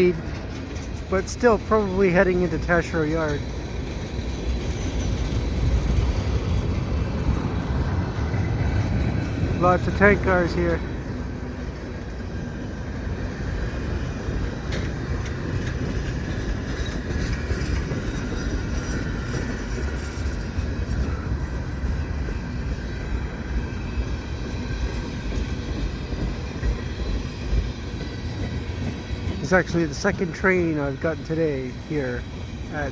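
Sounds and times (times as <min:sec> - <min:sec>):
freight train wheels rumbling: 0:00.0 - 0:32.9.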